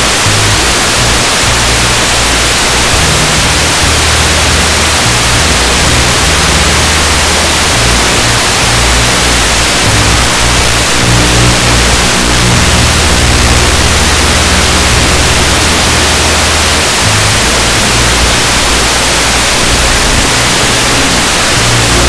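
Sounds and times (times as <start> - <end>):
background music: 0.0 - 22.0
static hiss: 0.0 - 22.0.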